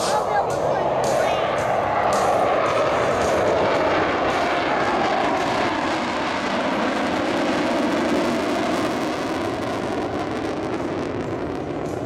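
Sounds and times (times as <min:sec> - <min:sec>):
jet engines flying past: 0:00.0 - 0:12.0.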